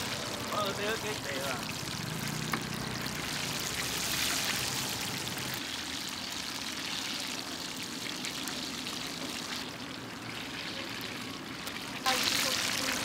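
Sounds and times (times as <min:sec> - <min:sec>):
oil sizzling in a deep fryer: 0:00.0 - 0:13.0.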